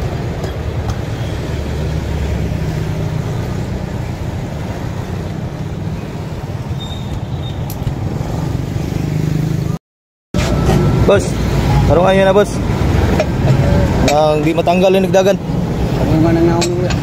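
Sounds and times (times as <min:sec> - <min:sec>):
road traffic rumble: 0:00.0 - 0:09.8, 0:10.4 - 0:17.0.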